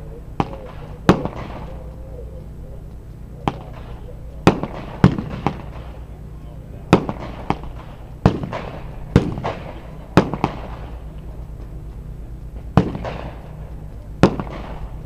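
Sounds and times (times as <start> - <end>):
low rumble: 0.0 - 15.0
sharp echoing bangs: 0.0 - 15.0.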